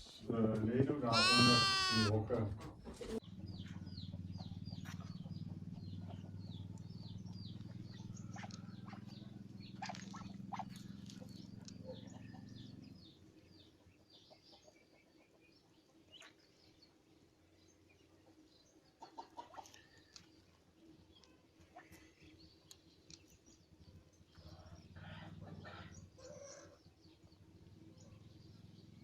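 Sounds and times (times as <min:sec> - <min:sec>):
small birds chirping: 0:01.1 - 0:02.1, 0:03.2 - 0:29.0.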